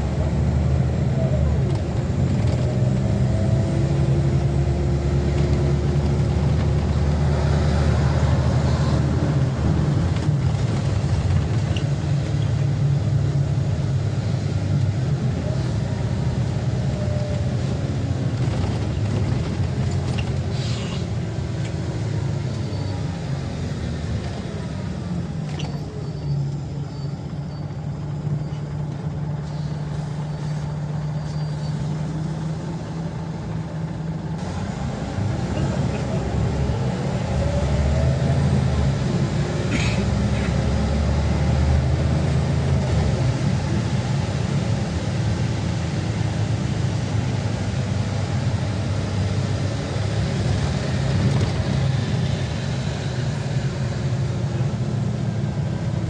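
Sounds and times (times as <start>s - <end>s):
bus diesel engine whine: 0.0s - 56.0s.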